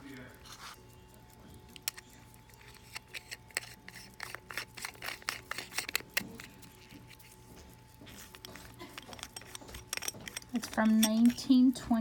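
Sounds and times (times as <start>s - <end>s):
pocket watch clicks and scraping: 0.0s - 11.8s.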